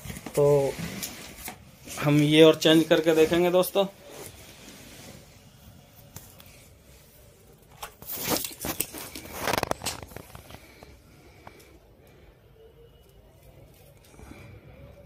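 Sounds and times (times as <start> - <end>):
wires and small parts rustling: 0.0 - 15.0.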